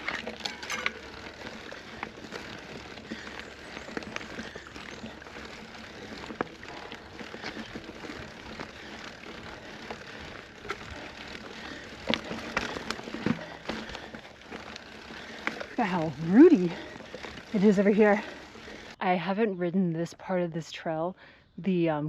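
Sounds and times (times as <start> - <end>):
bike clicks and rattles: 0.0 - 19.0
bike tyres rolling over dirt: 0.0 - 19.0.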